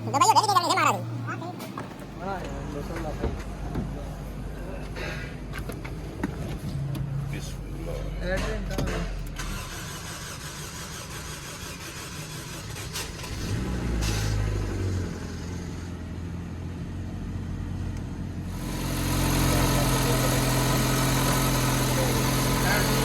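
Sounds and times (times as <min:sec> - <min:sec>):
car engine idling: 0:04.4 - 0:23.0.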